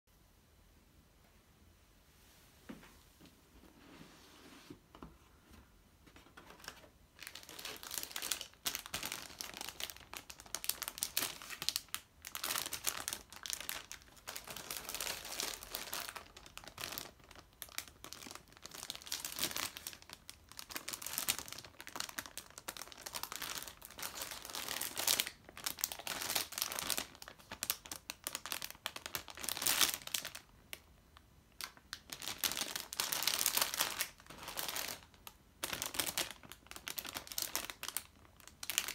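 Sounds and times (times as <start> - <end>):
plastic bags crinkling: 6.2 - 30.7, 31.6 - 38.9.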